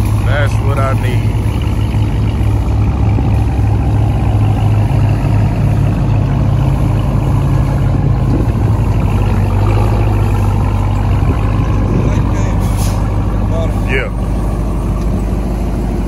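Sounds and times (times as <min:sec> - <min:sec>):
truck engine rumbling loudly: 0:00.0 - 0:16.0.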